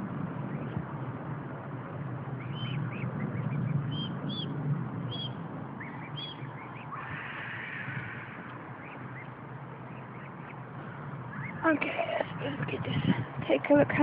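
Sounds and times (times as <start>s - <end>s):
low background rumble: 0.0s - 14.0s
cygnets peeping: 0.4s - 0.9s, 2.3s - 13.8s.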